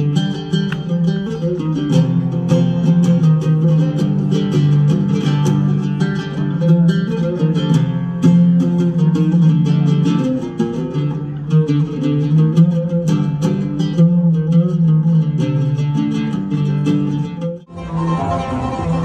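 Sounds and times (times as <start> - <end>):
oud plucked melody: 0.0 - 19.0.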